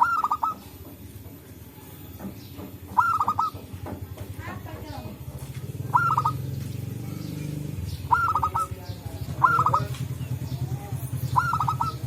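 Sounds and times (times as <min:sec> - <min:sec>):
doves cooing: 0:00.0 - 0:01.7, 0:02.8 - 0:04.2, 0:05.0 - 0:12.0.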